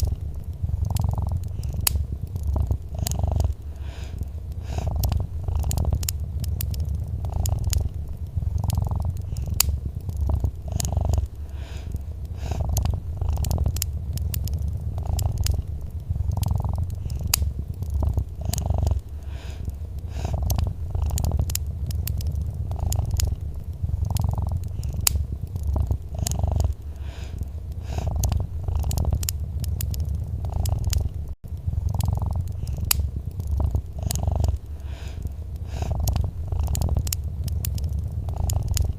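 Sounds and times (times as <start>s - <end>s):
cat purring: 0.0s - 38.9s
wood fire crackling: 0.0s - 38.9s.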